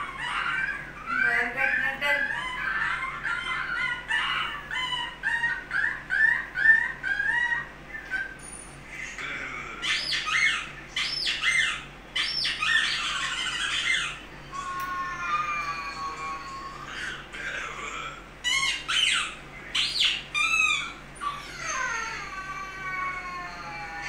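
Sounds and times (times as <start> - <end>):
high arching squawks: 0.0 - 16.1, 16.9 - 22.3.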